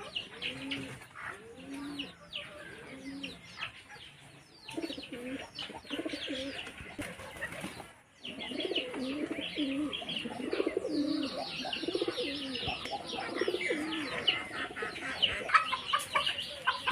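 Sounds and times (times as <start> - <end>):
pigeons cooing: 0.0 - 3.8, 4.6 - 16.9.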